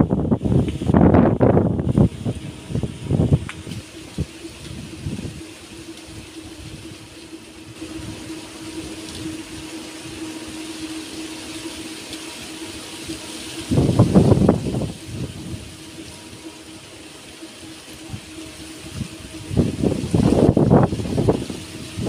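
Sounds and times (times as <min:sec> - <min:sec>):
wind buffeting microphone: 0:00.0 - 0:11.8, 0:12.8 - 0:17.0, 0:17.8 - 0:22.0
steady hiss: 0:00.0 - 0:22.0.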